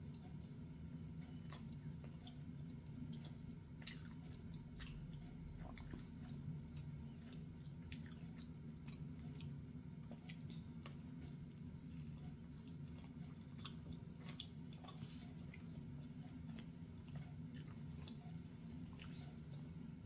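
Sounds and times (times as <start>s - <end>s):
person chewing pizza: 0.0s - 20.0s
steady low hum: 0.0s - 20.0s.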